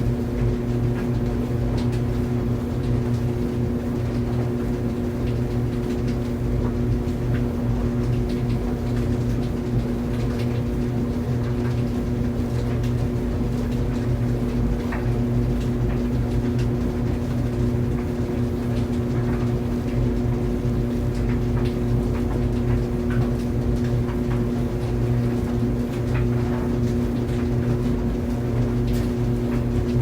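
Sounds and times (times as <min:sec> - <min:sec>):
clothes dryer motor hum: 0:00.0 - 0:30.0.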